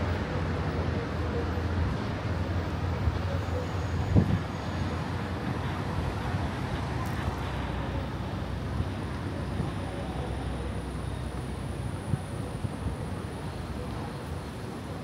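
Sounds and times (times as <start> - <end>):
car traffic rumble: 0.0 - 15.0.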